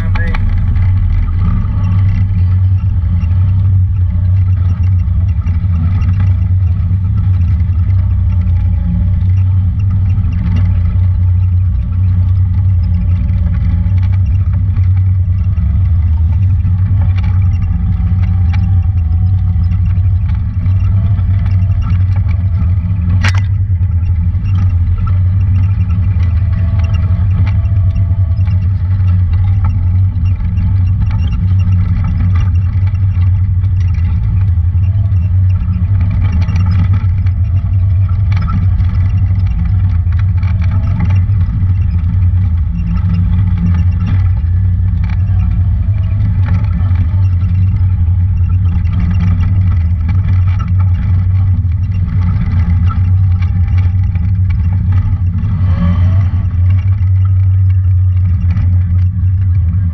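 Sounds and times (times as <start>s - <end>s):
engine deep drone: 0.0s - 59.9s
vehicle rattling over bumps: 0.0s - 59.9s.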